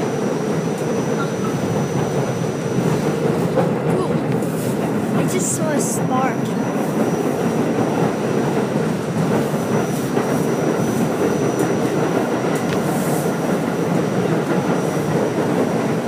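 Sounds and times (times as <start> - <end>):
subway wheels rumbling: 0.0 - 16.0.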